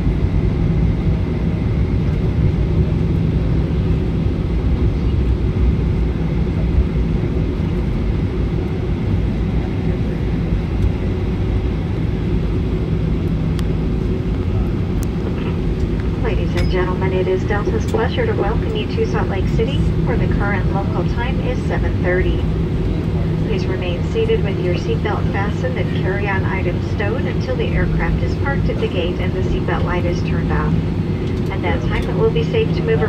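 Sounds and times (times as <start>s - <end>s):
low hum: 0.0s - 33.0s
rumble of engines and wheels: 0.0s - 33.0s.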